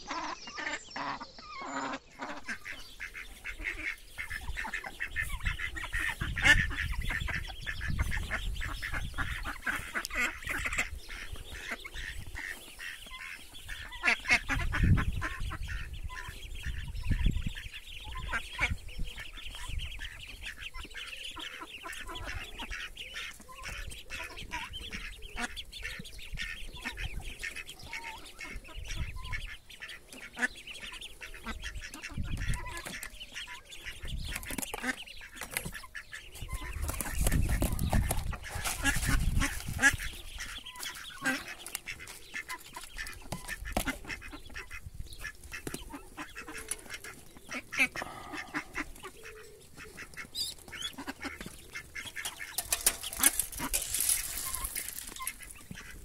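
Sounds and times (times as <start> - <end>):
ducklings and goslings peeping: 0.0 - 56.0.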